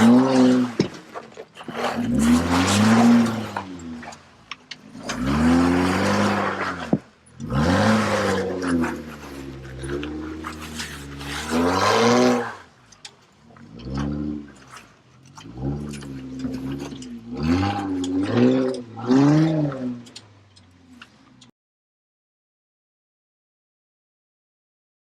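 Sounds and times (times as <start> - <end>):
car engine revving: 0.0 - 21.5.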